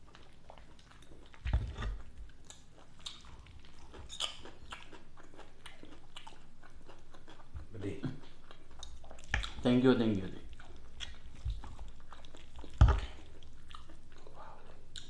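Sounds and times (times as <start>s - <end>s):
chewing food with crunches: 0.0s - 15.0s.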